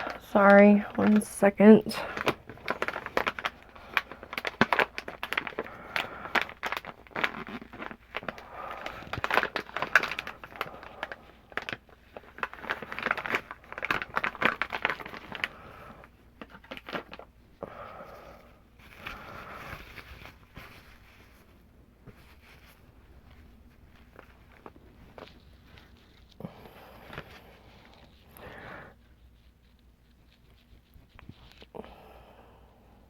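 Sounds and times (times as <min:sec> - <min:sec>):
plastic packaging crinkling: 0:00.0 - 0:31.7.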